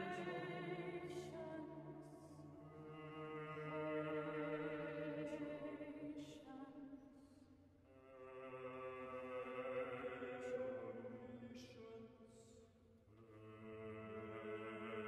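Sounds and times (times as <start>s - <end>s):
choir singing a cappella: 0.0s - 6.8s, 8.1s - 11.9s, 13.2s - 15.0s.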